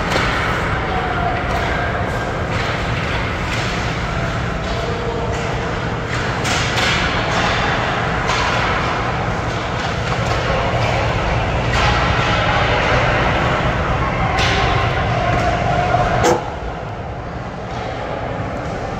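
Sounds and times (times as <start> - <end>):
hockey sticks and pucks knocking: 0.0 - 16.6
steady background noise: 0.0 - 18.9.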